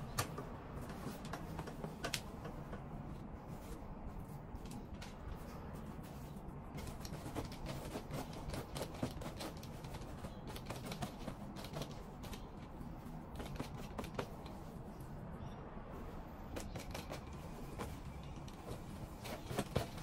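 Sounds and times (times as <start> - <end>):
lint roller crackling on fabric: 0.1 - 15.0, 16.0 - 20.0.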